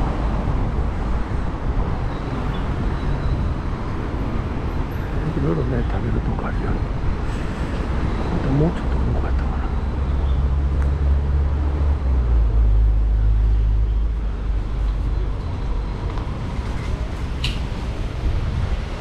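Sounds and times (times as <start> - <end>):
heavy vehicle engine rumbling: 0.0 - 19.0
traffic hum: 0.0 - 19.0.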